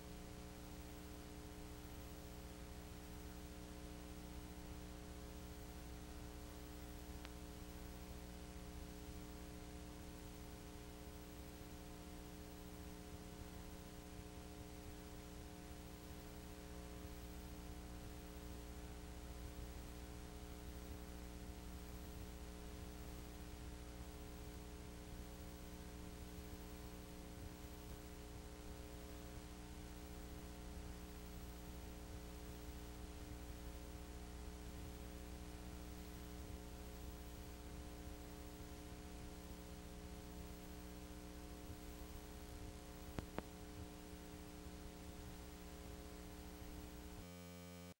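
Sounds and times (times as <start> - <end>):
electrical hum with hiss: 0.0 - 48.0.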